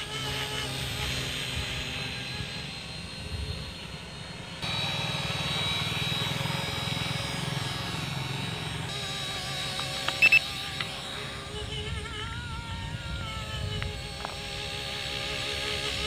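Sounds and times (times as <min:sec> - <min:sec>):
rc helicopter buzzing: 0:00.0 - 0:16.0.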